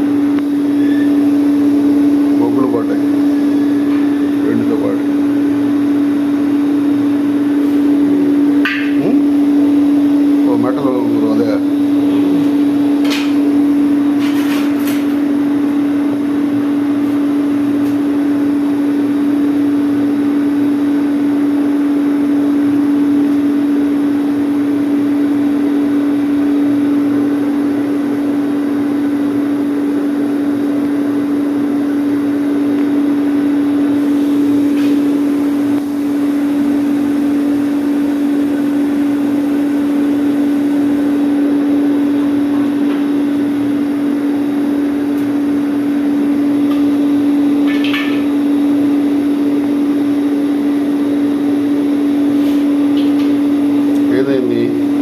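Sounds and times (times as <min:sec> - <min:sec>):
blower motor hum with rushing air: 0:00.0 - 0:55.0.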